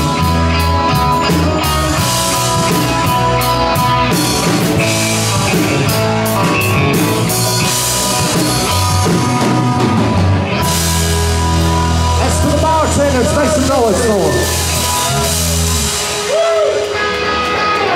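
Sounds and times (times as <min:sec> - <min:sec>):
drums and cymbals: 0:00.0 - 0:17.9
live rock band playing: 0:00.0 - 0:17.9.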